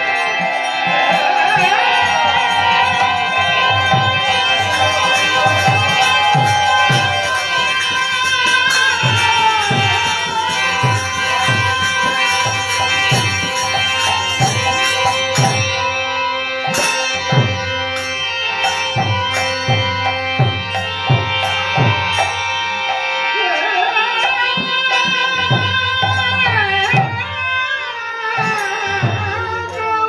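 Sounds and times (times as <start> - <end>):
harmonium holding notes: 0.0 - 30.0.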